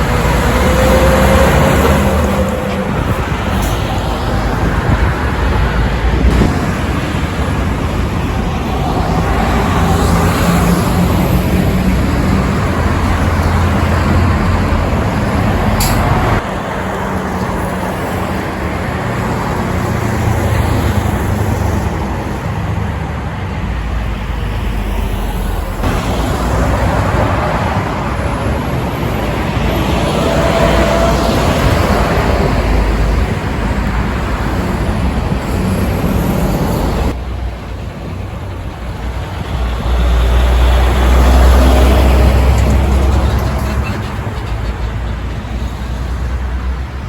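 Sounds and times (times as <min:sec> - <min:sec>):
heavy trucks driving past: 0:00.0 - 0:47.0
tyre and traffic noise: 0:00.0 - 0:47.0.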